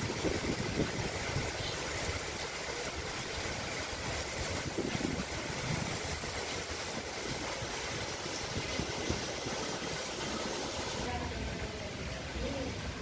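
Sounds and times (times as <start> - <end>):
fountain water rushing: 0.0 - 13.0.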